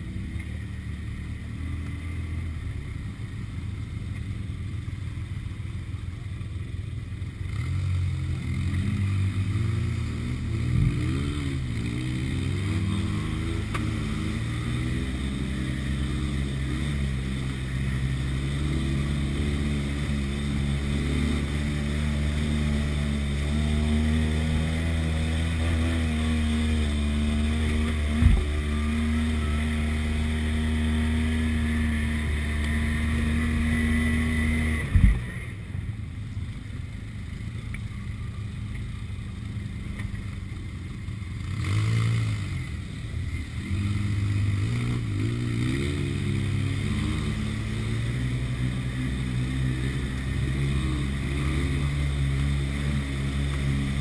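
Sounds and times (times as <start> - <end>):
utility vehicle engine running: 0.0 - 54.0.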